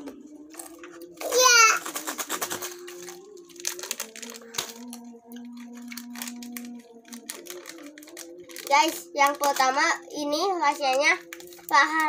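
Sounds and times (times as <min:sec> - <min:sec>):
plastic sachets crinkling: 0:00.0 - 0:12.0.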